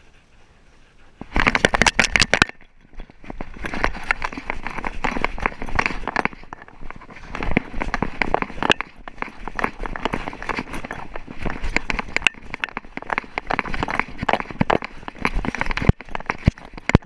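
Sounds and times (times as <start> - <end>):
dog footfalls and camera rattle: 1.2 - 17.0.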